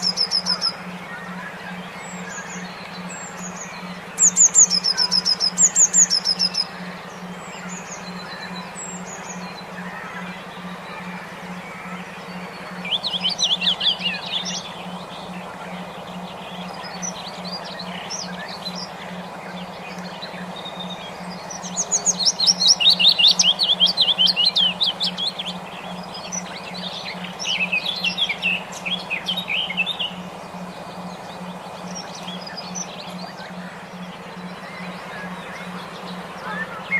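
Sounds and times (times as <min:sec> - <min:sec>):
songbird twittering trills: 0:00.0 - 0:36.9
steady low hum: 0:00.0 - 0:36.9.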